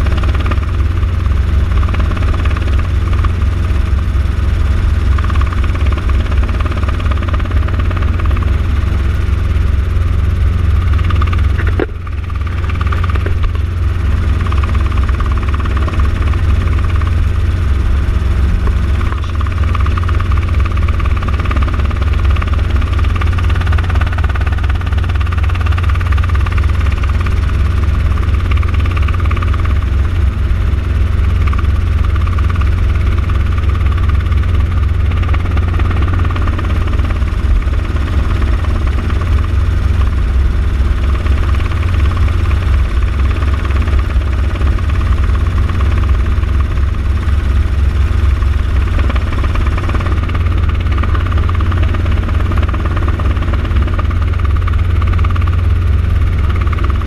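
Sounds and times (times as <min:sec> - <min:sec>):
helicopter engine and rotors droning: 0:00.0 - 0:57.0.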